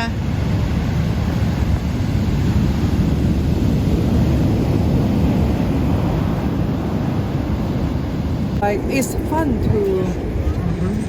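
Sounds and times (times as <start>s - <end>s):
heavy ocean surf: 0.0s - 11.0s
wind buffeting microphone: 0.0s - 11.0s.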